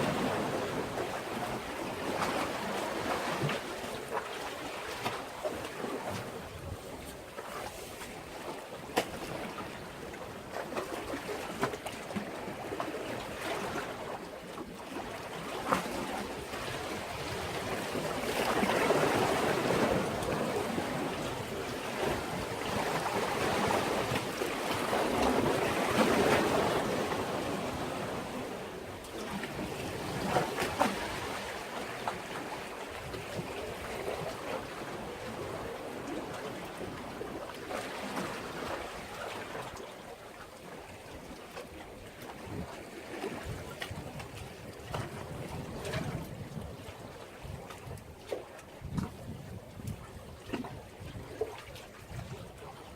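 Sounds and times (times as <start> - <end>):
waves washing against breakwater: 0.0 - 52.9.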